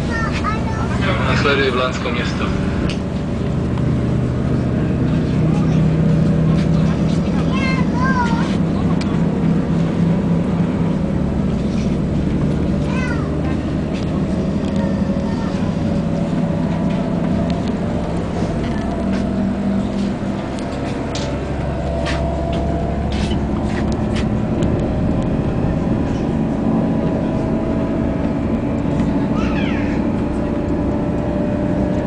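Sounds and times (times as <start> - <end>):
train running drone: 0.0 - 32.0.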